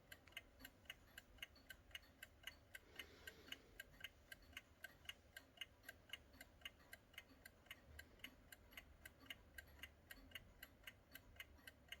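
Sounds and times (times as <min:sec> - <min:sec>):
alarm clock ticking: 0:00.0 - 0:12.0.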